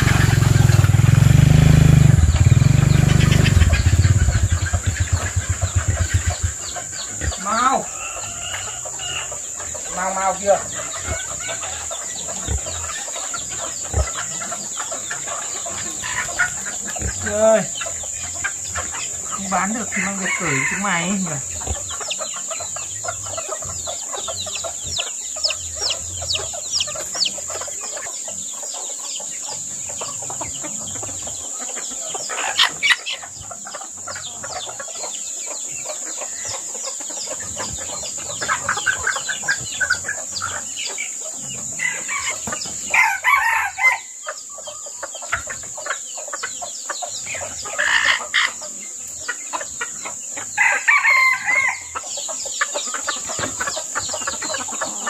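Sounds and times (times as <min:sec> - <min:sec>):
chickens clucking: 0:00.0 - 0:55.0
roosters crowing: 0:00.0 - 0:55.0.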